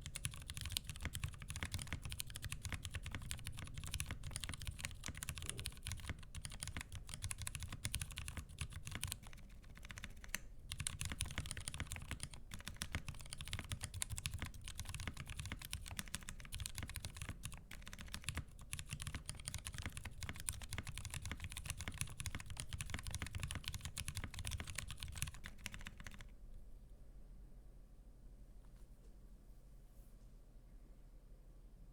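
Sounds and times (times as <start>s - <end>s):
fast typing on mechanical keyboard: 0.0s - 26.3s.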